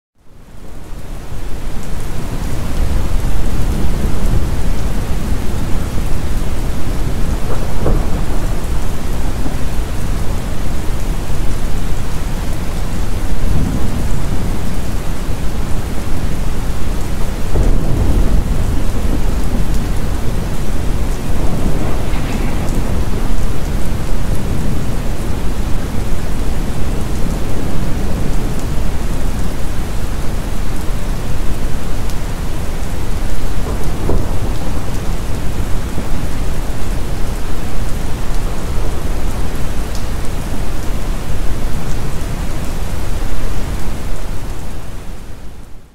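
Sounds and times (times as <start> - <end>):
heavy rain: 0.2 - 45.9
rolling thunder rumbles: 2.3 - 44.4.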